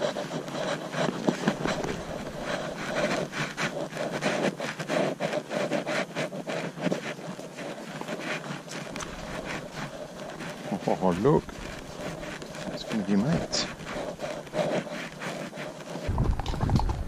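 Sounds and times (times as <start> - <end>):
brambles and twigs scraping: 0.0 - 17.0.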